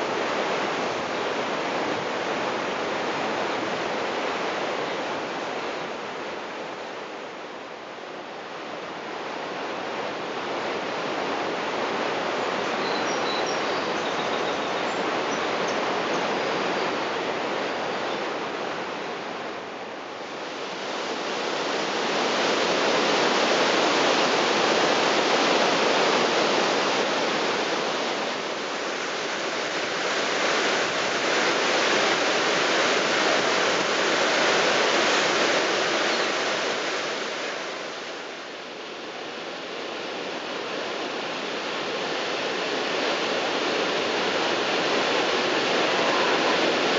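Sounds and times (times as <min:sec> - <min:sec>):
waterfall rushing: 0:08.8 - 0:46.9.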